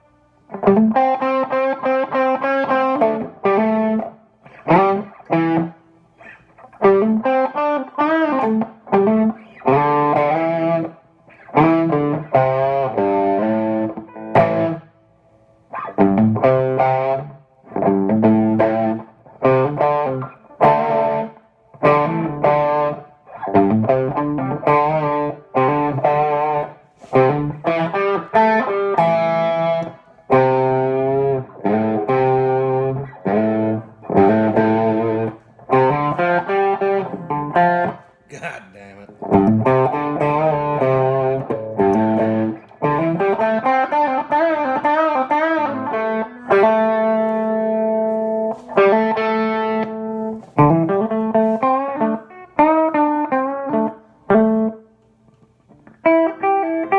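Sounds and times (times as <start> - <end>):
overdriven electric guitar: 0.0 - 38.2, 39.1 - 56.9.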